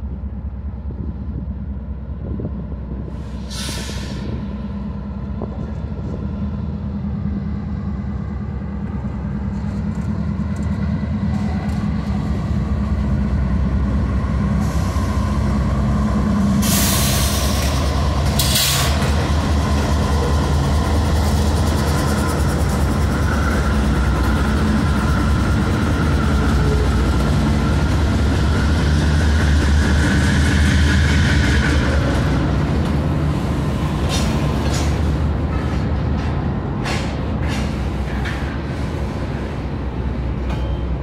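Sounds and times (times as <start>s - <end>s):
diesel locomotive engines droning: 0.0s - 41.0s.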